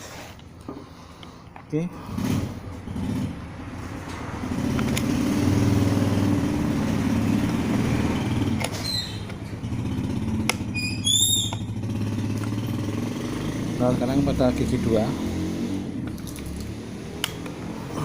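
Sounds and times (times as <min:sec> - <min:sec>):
vehicle engine passing: 0:01.9 - 0:18.0.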